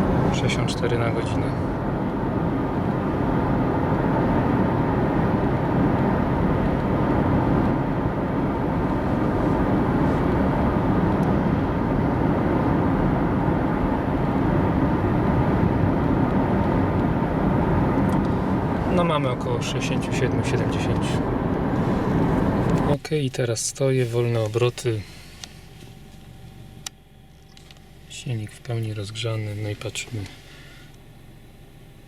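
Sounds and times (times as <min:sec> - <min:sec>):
car cabin drone: 0:00.0 - 0:32.0.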